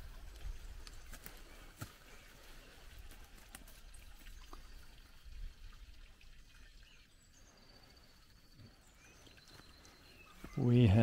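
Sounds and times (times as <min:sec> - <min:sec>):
faint trickle of water: 0:00.0 - 0:11.0.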